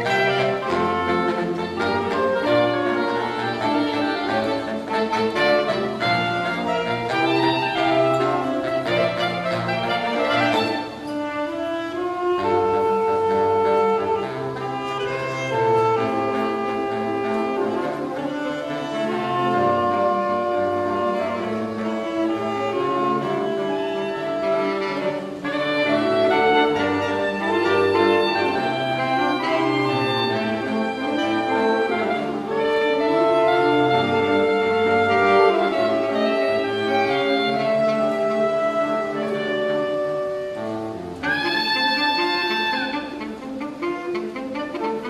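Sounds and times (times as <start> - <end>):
saxophone quartet playing: 0.0 - 45.0.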